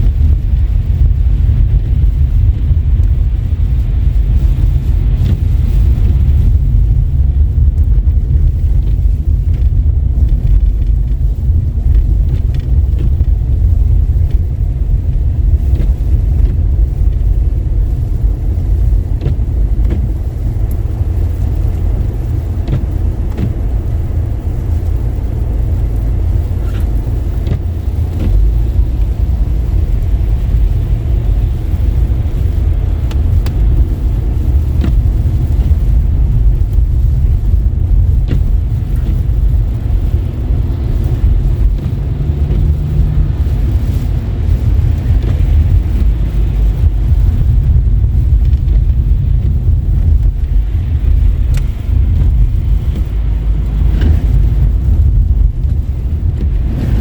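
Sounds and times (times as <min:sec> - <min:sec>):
car driving on wet road: 0:00.0 - 0:57.0.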